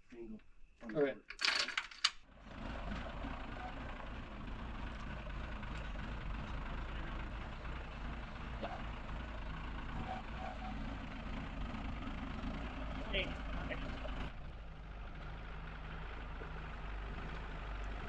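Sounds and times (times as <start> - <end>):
engine idling: 2.2 - 18.0.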